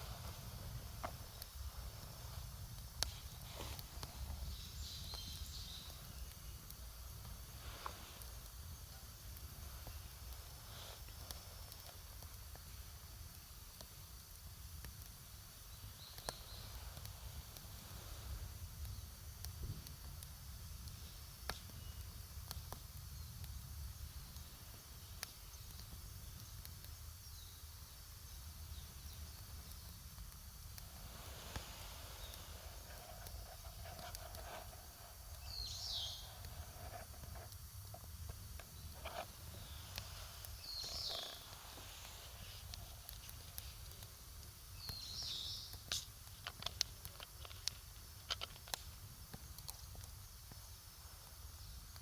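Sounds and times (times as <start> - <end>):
campfire wood crackling: 0.0 - 52.0
sharp pops of fire: 0.0 - 52.0.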